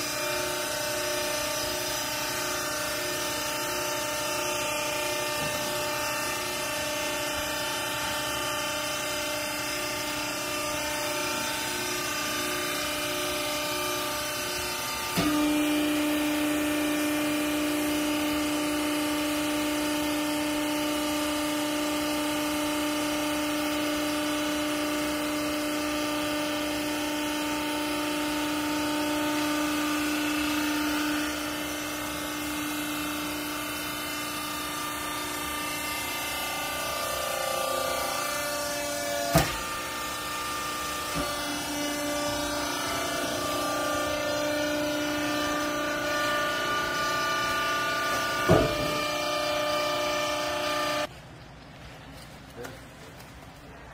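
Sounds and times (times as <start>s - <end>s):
hydraulic pump motor humming: 0.0s - 51.1s
hydraulic whine: 0.0s - 51.1s.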